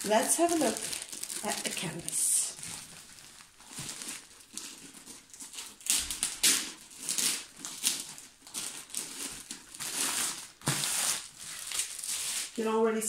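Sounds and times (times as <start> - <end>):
plastic film crinkling: 0.0 - 12.6.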